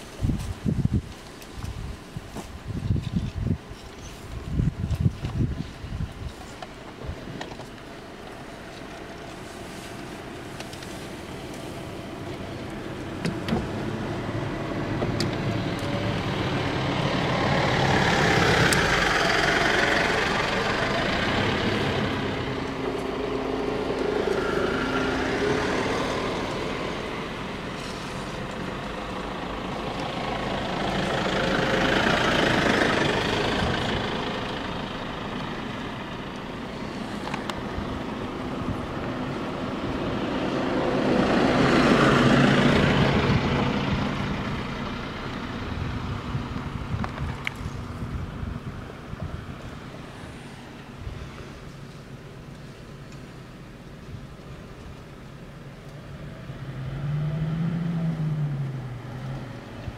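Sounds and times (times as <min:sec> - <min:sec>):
low engine hum: 0:00.0 - 0:59.9
vehicles passing on road: 0:00.0 - 0:59.9.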